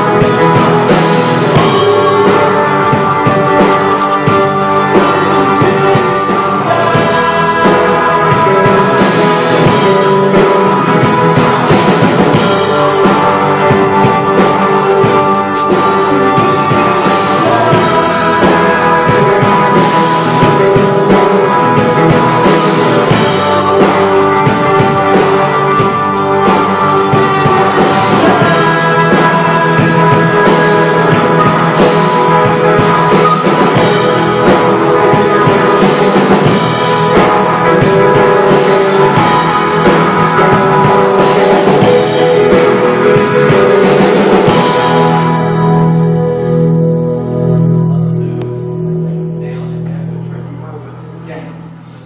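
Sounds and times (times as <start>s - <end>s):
drum kit: 0.0s - 48.6s
electric guitars: 0.0s - 52.0s
keyboard: 0.0s - 52.0s.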